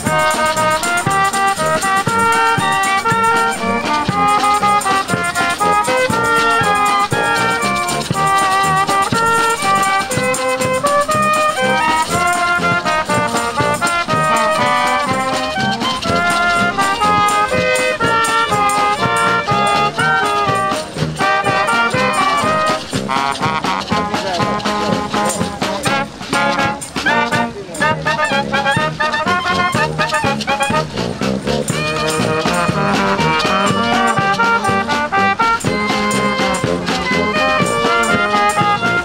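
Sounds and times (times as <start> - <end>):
rattling shaker: 0.0 - 39.0
snare and bass drum beat: 0.0 - 39.0
sousaphone bass: 0.0 - 39.0
trumpets playing melody: 0.0 - 39.0.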